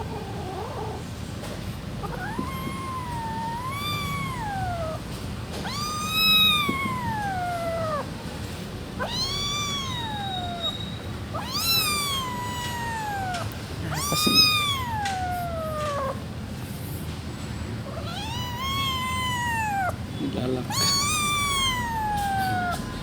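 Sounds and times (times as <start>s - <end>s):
kitten meowing: 0.0s - 1.1s, 2.0s - 8.2s, 9.0s - 16.2s, 17.9s - 23.0s.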